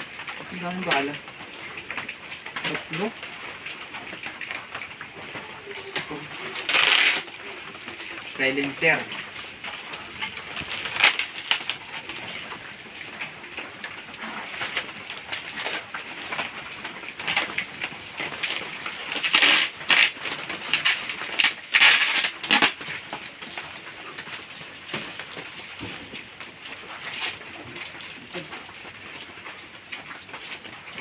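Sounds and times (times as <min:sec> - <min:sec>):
packaging crinkling: 0:04.5 - 0:31.0.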